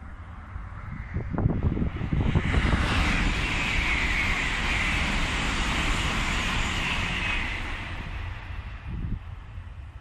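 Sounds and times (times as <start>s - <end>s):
high-speed train rushing past: 0.0s - 10.0s.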